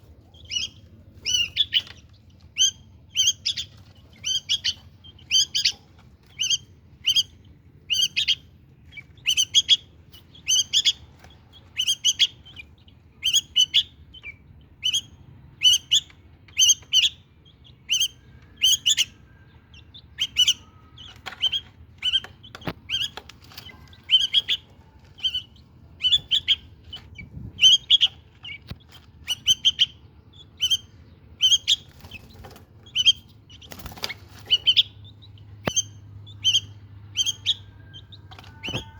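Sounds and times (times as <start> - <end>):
bulbuls chirping: 0.0 - 38.9.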